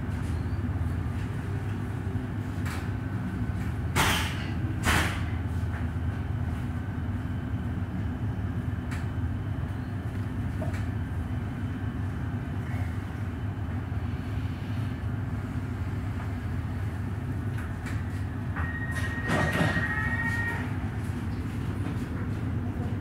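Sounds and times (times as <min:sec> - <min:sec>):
train hum and rumble: 0:00.0 - 0:23.0.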